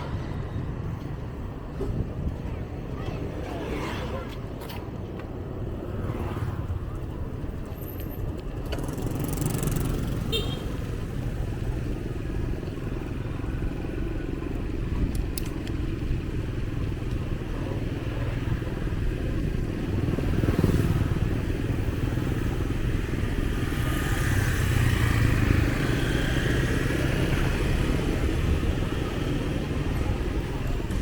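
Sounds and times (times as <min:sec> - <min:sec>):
motorbike engines passing: 0:00.0 - 0:31.0.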